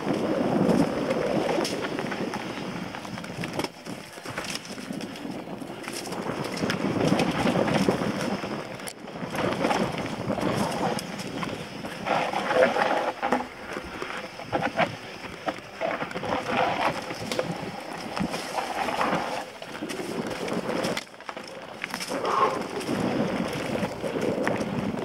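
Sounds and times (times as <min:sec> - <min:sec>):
bike knocking and rattling: 0:00.0 - 0:25.0
bike tyres rolling over dirt: 0:00.0 - 0:25.0
wind on microphone: 0:00.0 - 0:25.0.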